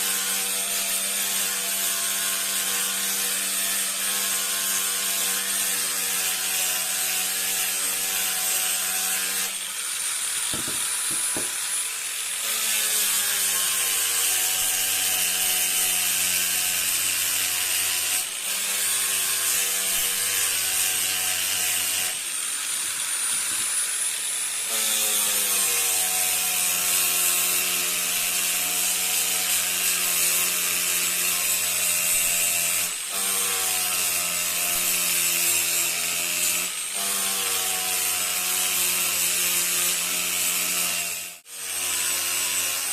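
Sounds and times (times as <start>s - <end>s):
power tool cutting wood: 0.0s - 42.9s.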